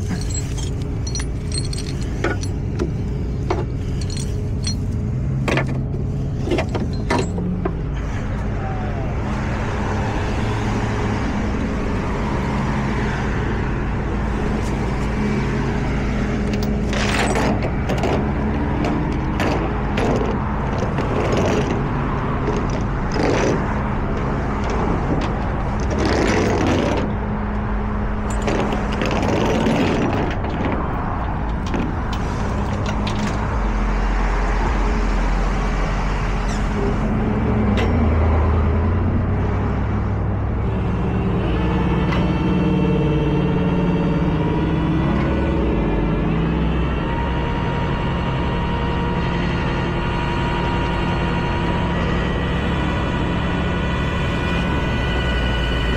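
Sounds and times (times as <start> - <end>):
truck engine running: 0.0 - 12.6, 13.3 - 55.9.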